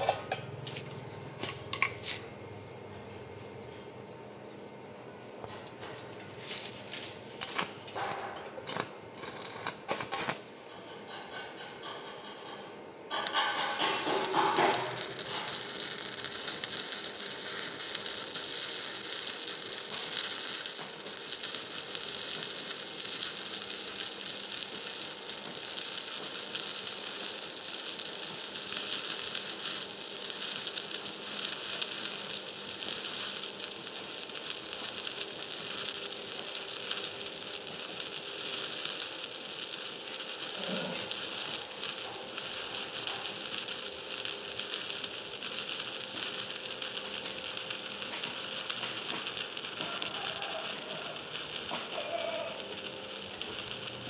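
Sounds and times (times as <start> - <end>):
welding arc crackle and hiss: 0.0 - 2.3, 5.2 - 54.0.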